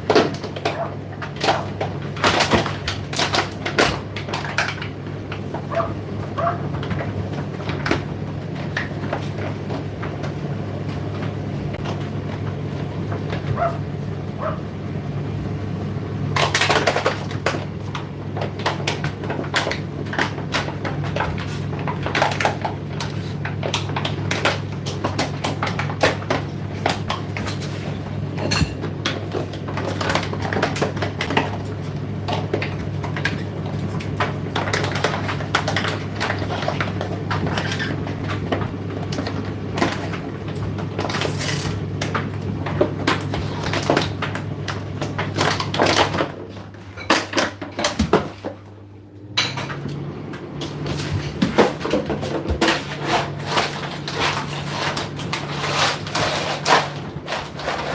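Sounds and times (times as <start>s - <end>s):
tumble dryer motor hum: 0.0s - 57.9s.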